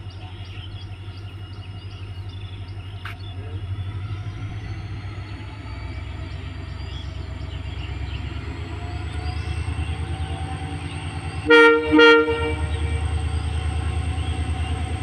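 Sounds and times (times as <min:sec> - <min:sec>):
birds chirping: 0:00.0 - 0:15.0
diesel locomotive engine rumbling: 0:00.0 - 0:15.0.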